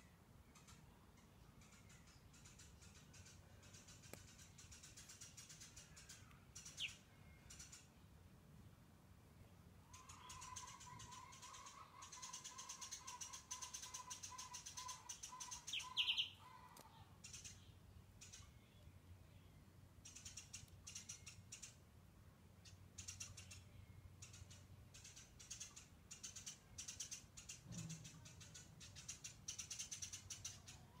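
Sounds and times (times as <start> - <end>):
faint birdsong: 0.0 - 31.0.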